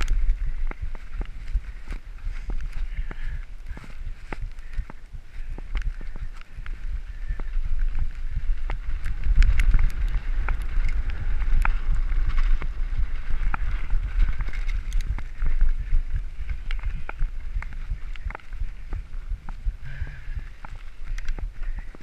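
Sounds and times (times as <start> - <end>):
bike rattling and clicking: 0.0 - 22.0
wind buffeting microphone: 0.0 - 22.0.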